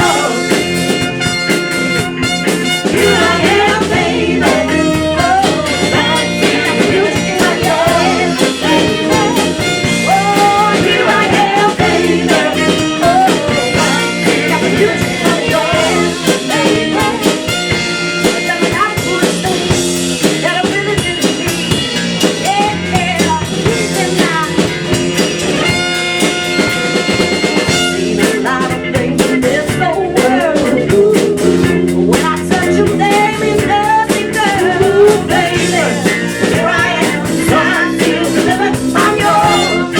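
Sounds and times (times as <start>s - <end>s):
person singing: 0.0s - 1.2s, 2.9s - 21.6s, 22.4s - 24.7s, 28.0s - 39.9s
live band playing: 0.0s - 39.9s.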